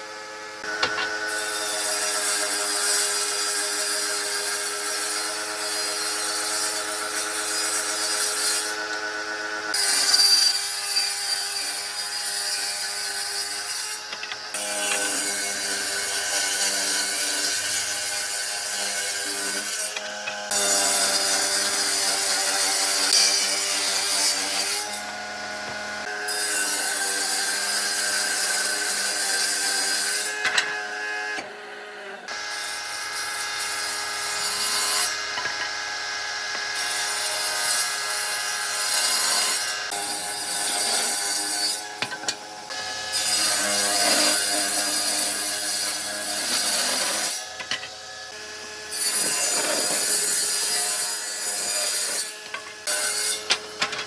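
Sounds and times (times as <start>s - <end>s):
power tool rasping wood: 0.0s - 54.0s.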